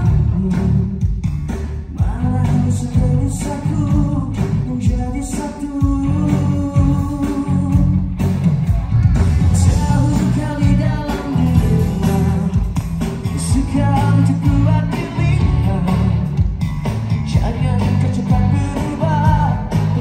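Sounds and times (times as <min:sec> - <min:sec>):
man singing into a microphone: 0:00.0 - 0:01.1, 0:01.9 - 0:08.1, 0:09.6 - 0:16.4, 0:17.3 - 0:20.0
pop-rock band music: 0:00.0 - 0:20.0.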